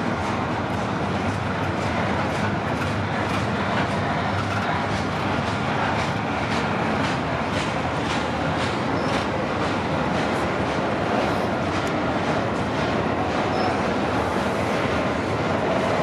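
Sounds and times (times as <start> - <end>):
train wheels rumbling on rail: 0.0 - 16.0
wheels clicking over rail joints: 0.2 - 16.0.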